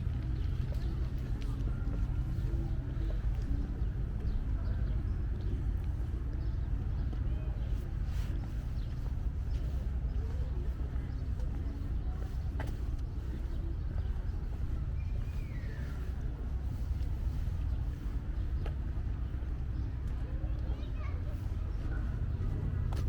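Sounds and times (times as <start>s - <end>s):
low street rumble: 0.0s - 23.0s.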